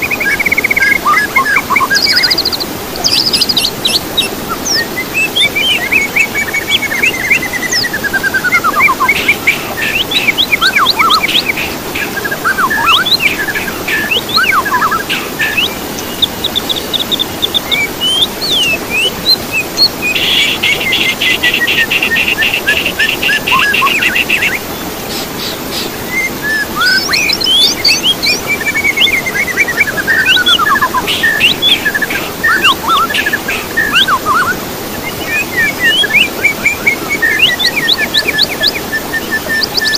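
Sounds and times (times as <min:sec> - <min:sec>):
songbirds chirping and trilling: 0:00.0 - 0:39.9
trickling water: 0:00.0 - 0:39.9.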